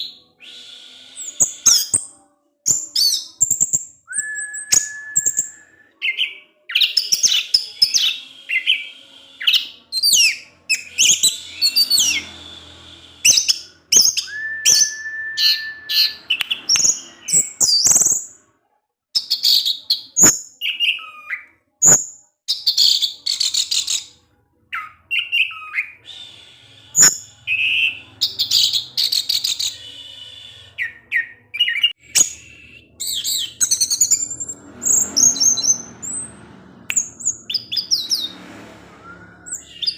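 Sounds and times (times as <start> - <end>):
thrush singing chirps and whistles: 0.0 - 18.4, 19.2 - 39.9.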